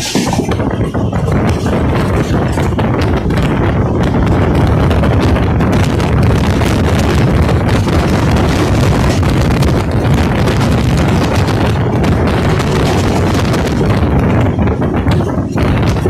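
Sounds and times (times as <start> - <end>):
train rumbling and rattling: 0.0 - 16.0
wind buffeting microphone: 0.0 - 16.0.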